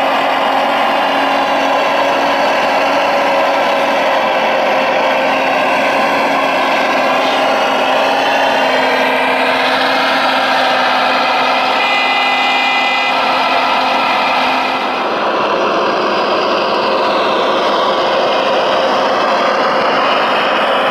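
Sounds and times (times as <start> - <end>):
model excavator electric whine: 0.0 - 20.9.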